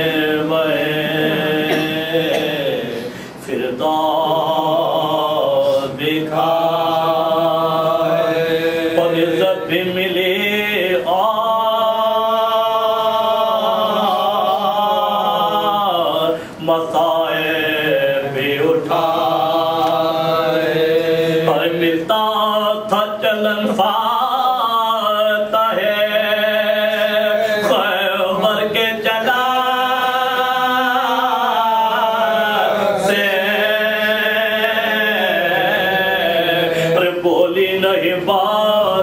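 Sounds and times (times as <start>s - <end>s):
man chanting melodically: 0.0s - 39.0s.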